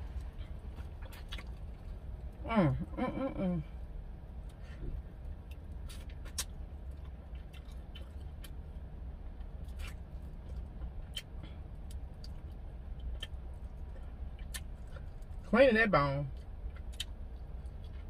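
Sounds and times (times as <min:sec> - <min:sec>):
chewing and smacking: 0:00.0 - 0:02.4, 0:04.4 - 0:15.5, 0:16.3 - 0:18.0
steady low rumble: 0:00.0 - 0:18.0.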